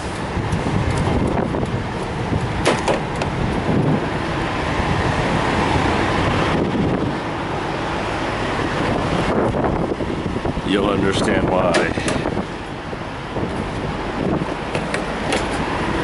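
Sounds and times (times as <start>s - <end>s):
diesel trucks idling: 0.0s - 16.0s.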